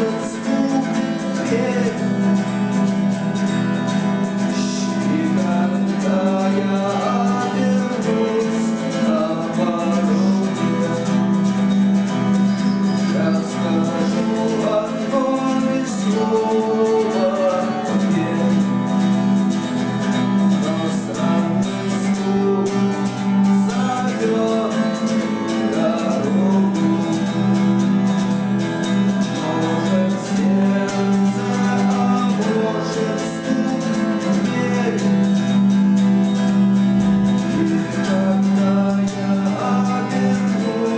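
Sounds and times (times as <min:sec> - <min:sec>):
instrumental band music with guitar: 0:00.0 - 0:40.9.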